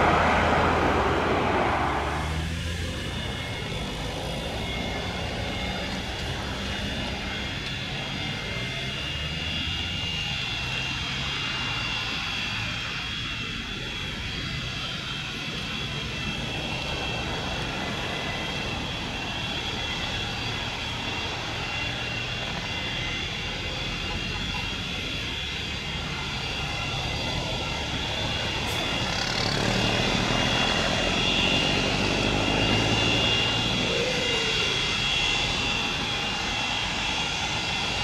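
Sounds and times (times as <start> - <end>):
jet engines whining: 0.0 - 38.0.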